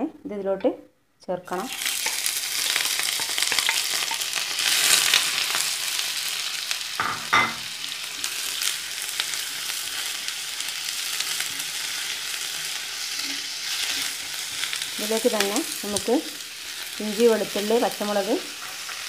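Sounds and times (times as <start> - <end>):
onions sizzling in oil: 1.4 - 19.0.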